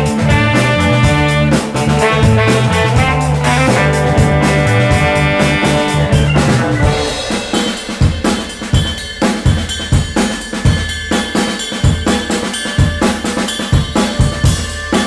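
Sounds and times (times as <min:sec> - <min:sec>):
drum kit break: 0:00.0 - 0:15.0
soul funk band music: 0:00.0 - 0:15.0.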